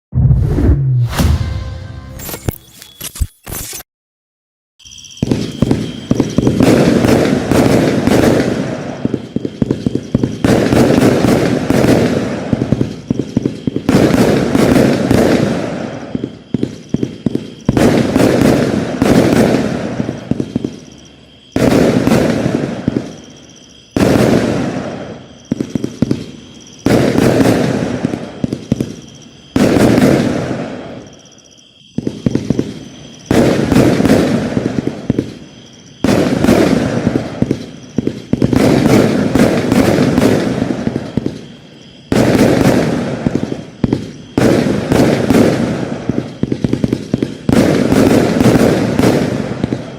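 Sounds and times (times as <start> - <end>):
crackling firework bursts: 4.8 - 49.9.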